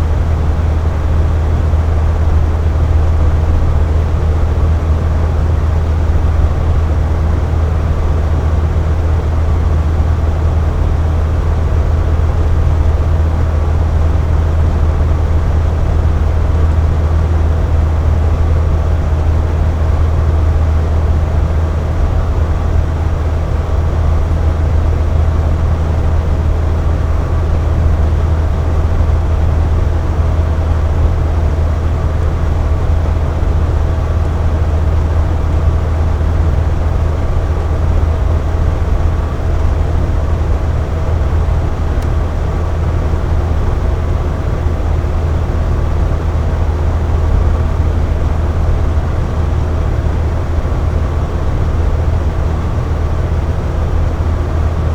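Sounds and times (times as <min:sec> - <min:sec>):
fan noise: 0:00.0 - 0:54.9.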